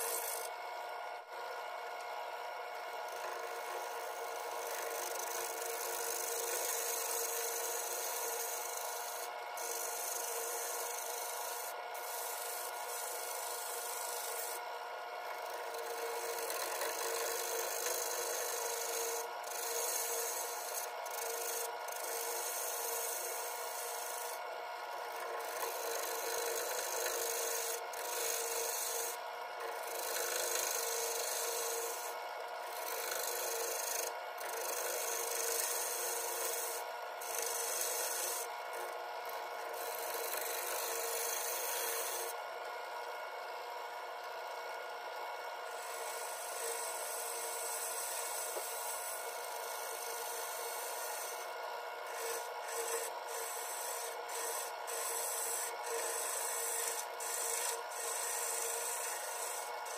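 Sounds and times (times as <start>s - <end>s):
gouge scraping wood on lathe: 0.0s - 0.5s, 3.1s - 14.6s, 15.3s - 24.4s, 25.0s - 42.4s, 45.7s - 59.9s
lathe humming: 0.0s - 0.5s, 3.1s - 14.6s, 15.2s - 42.4s, 45.7s - 59.9s.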